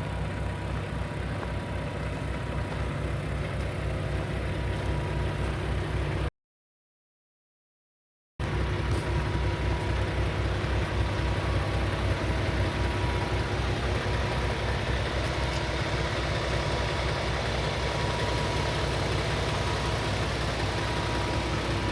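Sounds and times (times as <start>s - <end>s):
diesel truck engine idling: 0.0s - 6.3s, 8.4s - 21.9s.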